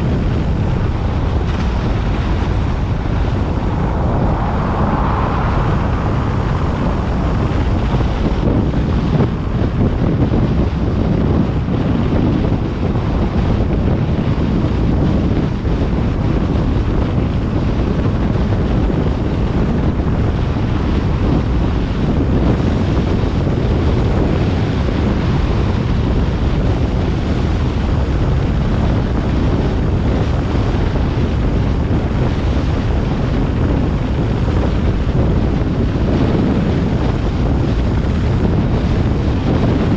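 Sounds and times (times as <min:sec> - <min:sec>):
car road noise: 0:00.0 - 0:39.9
wind buffeting microphone: 0:00.0 - 0:39.9.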